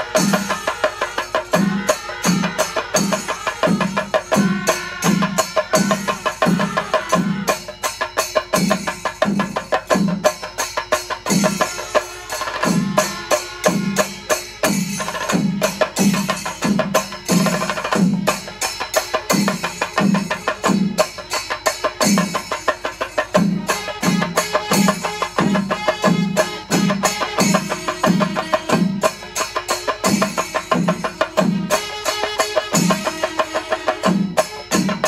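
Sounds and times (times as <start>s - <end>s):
cymbal clashes: 0.0s - 35.0s.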